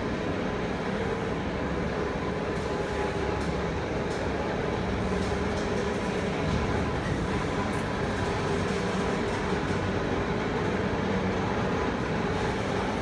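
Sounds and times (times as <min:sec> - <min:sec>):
machine mechanical rumble: 0:00.0 - 0:13.0.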